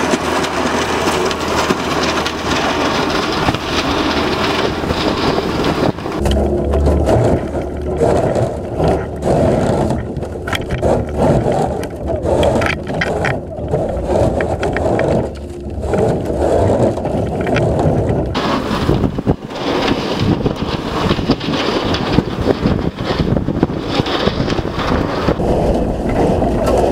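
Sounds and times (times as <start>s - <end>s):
boat hull crunching through ice: 0.0s - 26.9s
ice cracking: 0.0s - 26.9s
outboard motor running: 0.0s - 26.9s
rushing water: 0.0s - 26.9s.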